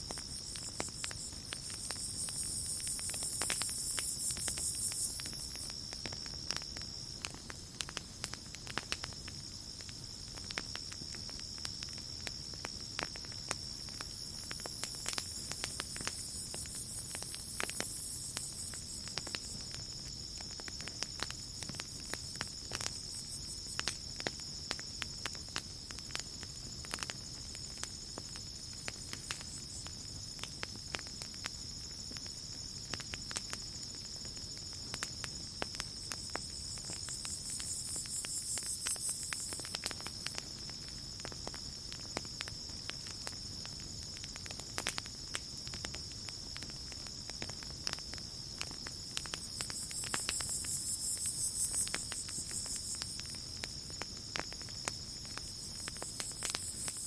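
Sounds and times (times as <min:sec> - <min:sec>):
crickets trilling: 0:00.0 - 0:57.0
wood campfire crackling and popping: 0:00.0 - 0:57.0.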